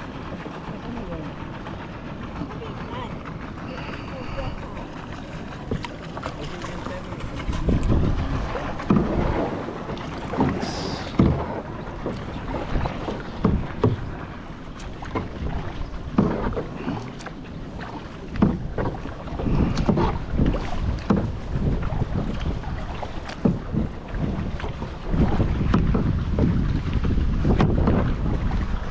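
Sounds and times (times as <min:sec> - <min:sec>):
paddle splashing in water: 0:00.0 - 0:28.9
wind rumble on microphone: 0:00.0 - 0:28.9.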